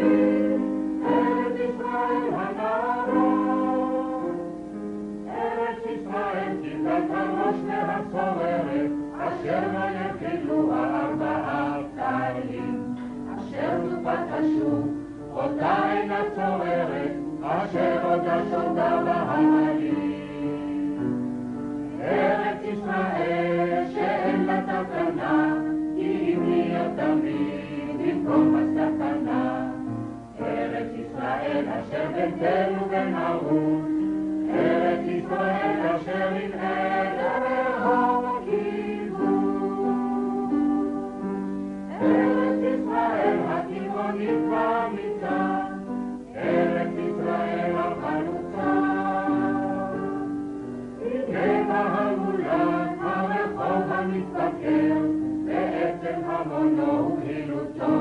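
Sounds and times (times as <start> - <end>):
group singing in chorus: 0.0 - 21.3, 21.9 - 58.0
sustained accompaniment: 0.0 - 58.0.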